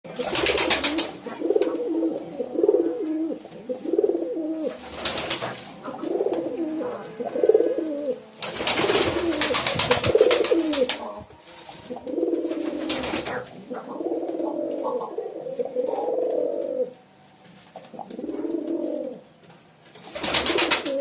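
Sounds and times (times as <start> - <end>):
rustling noise: 0.1 - 16.4, 17.0 - 21.0
pigeons cooing: 0.1 - 19.4, 20.0 - 21.0.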